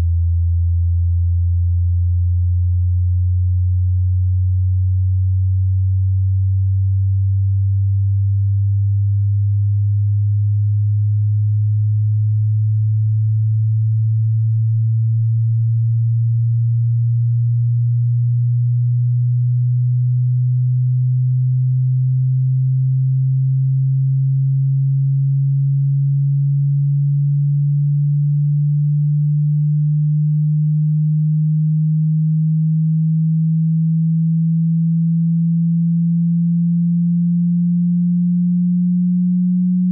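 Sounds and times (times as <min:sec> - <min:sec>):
sine tone rising in pitch: 0:00.0 - 0:39.9.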